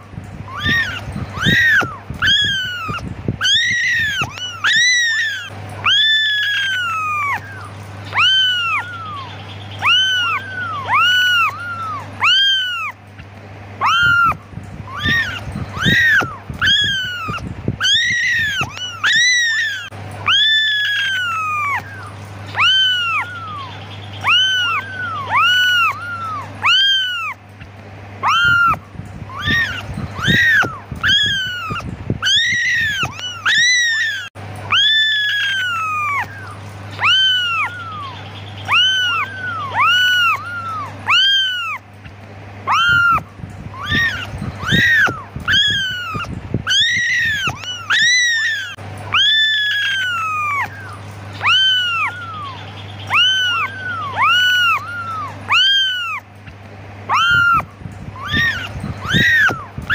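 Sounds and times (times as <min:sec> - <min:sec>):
kittens meowing: 0:00.0 - 0:59.9
steady low hum: 0:00.0 - 0:59.9.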